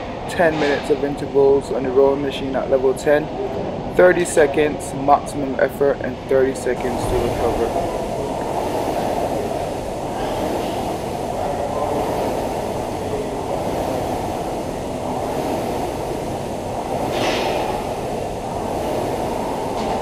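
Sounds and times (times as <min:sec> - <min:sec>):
rowing machine flywheel whirring: 0:00.0 - 0:20.0.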